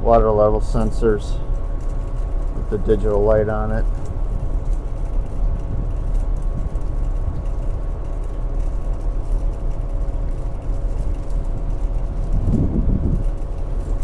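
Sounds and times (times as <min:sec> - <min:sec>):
hvac equipment humming: 0:00.0 - 0:14.0.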